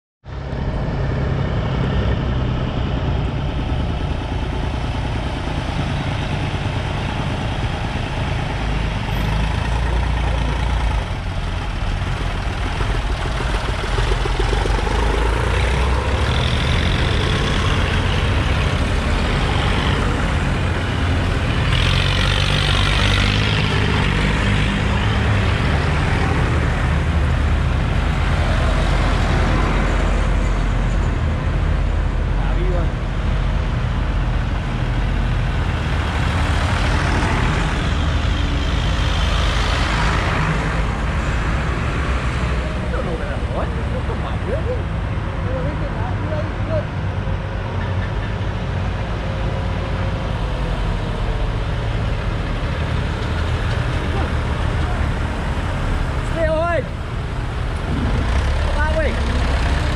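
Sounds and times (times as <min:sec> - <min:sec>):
tractor engines driving past: 0:00.3 - 0:59.9.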